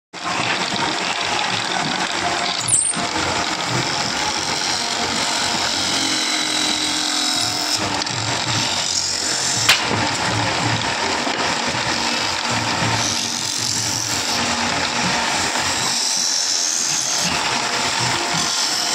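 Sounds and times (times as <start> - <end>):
chisel scraping spinning wood: 0.2 - 18.9
wood lathe rumble: 0.2 - 18.9.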